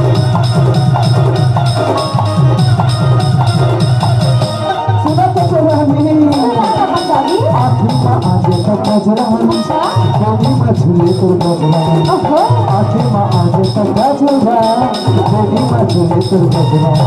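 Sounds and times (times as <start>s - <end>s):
hand drum and percussion beat: 0.0s - 17.0s
sliding keyboard melody: 0.0s - 17.0s.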